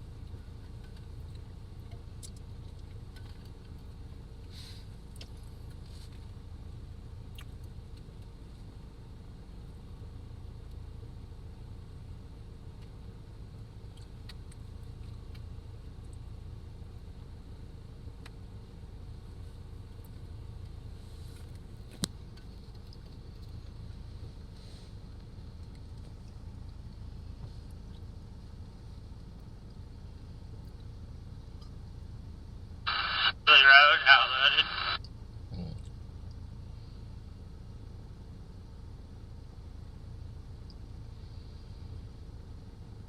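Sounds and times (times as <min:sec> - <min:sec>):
car driving rumble inside cabin: 0:00.0 - 0:43.0.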